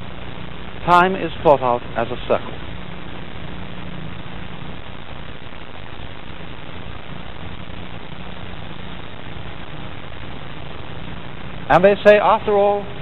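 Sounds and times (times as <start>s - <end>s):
low hum: 0.0s - 13.0s
steady hiss: 0.0s - 13.0s.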